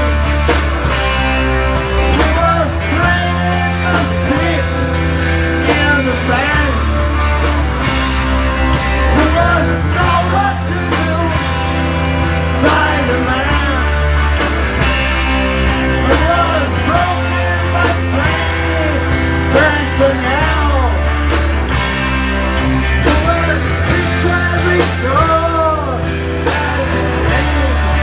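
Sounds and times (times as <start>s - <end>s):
rock band playing: 0.0s - 28.0s
person singing: 1.8s - 7.6s, 8.7s - 21.4s, 22.9s - 28.0s.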